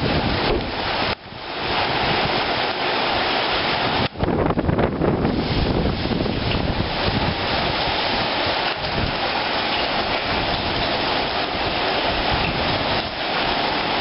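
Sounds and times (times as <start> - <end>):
heavy rain pouring: 0.0 - 14.0
strong wind gusting: 0.0 - 14.0.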